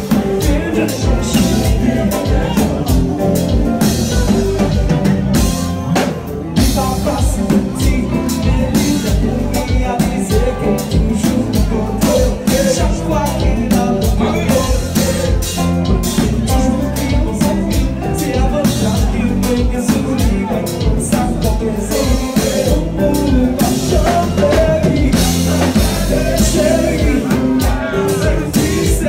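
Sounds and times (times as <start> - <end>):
person singing: 0.0 - 5.5, 6.6 - 29.0
band playing live: 0.0 - 29.0
drum kit beat: 0.0 - 29.0.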